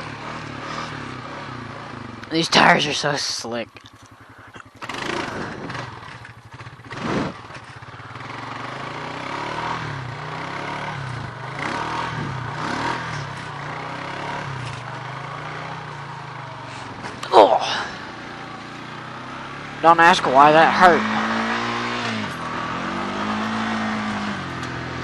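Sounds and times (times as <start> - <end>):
four-wheeler engine revving: 0.0 - 25.0.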